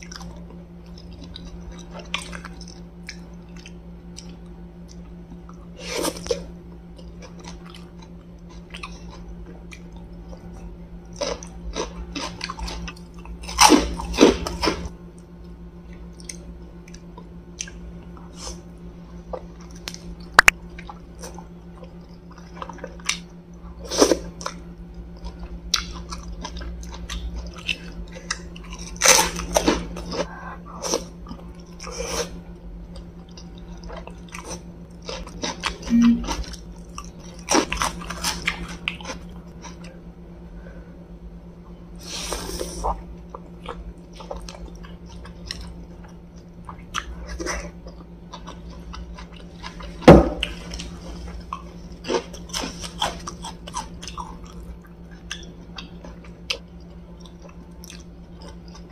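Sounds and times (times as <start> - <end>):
person chewing wetly: 0.0 - 40.0, 42.4 - 58.9
steady low hum: 0.0 - 58.9.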